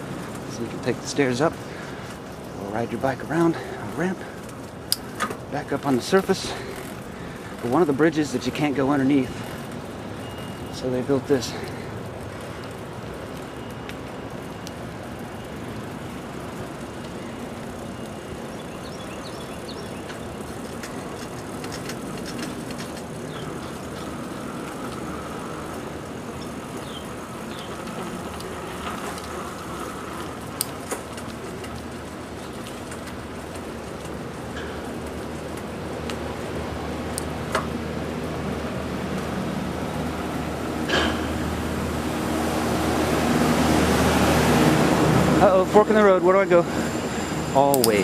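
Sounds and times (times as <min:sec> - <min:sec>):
bicycle rolling on pavement: 0:00.0 - 0:48.0.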